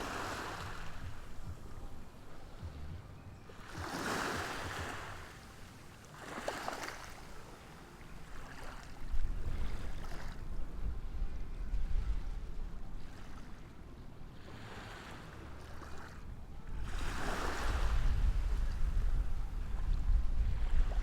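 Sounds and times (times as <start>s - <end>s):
wind rumble on microphone: 0.0s - 5.4s, 8.1s - 21.0s
ocean waves washing ashore: 0.0s - 21.0s.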